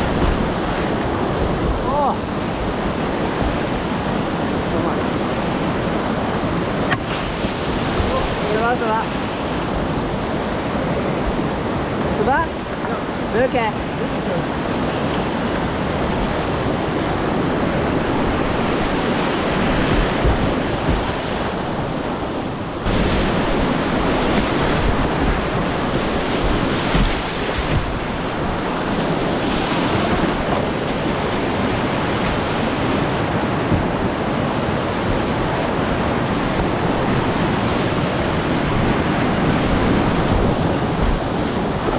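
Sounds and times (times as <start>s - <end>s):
whitewater rushing: 0.0s - 41.9s
wind on microphone: 0.0s - 41.9s.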